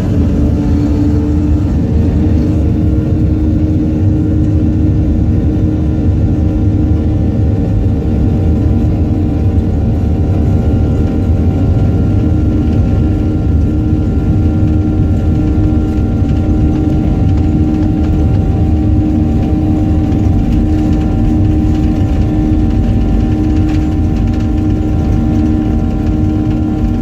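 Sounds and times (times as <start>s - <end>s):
airliner engines rumbling in cabin: 0.0s - 27.0s.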